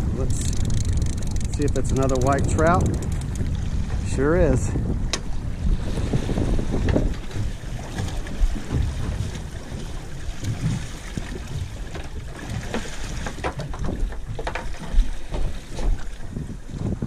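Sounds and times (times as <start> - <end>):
water noise: 0.0 - 17.0
wind buffeting the microphone: 0.0 - 17.0.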